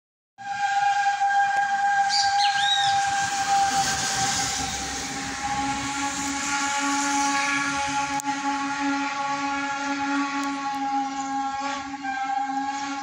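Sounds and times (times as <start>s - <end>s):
steam locomotive whistle: 0.4s - 13.0s
steam hissing: 0.5s - 13.0s.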